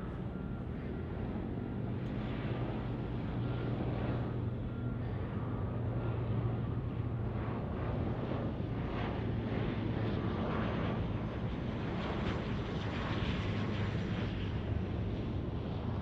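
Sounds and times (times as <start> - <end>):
turboprop plane droning: 0.0 - 16.0.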